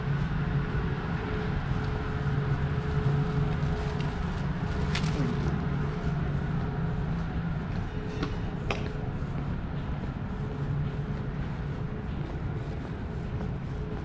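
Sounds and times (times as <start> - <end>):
constant hum: 0.0 - 14.0
traffic rumble: 0.0 - 14.0.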